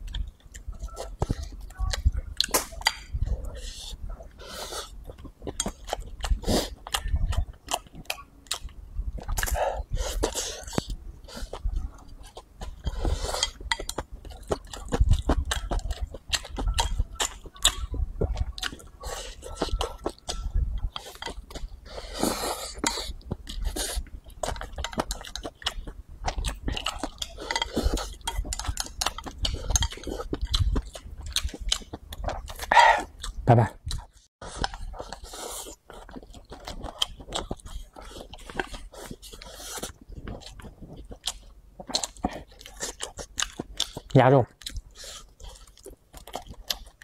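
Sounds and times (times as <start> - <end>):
chewing: 0.0 - 47.0.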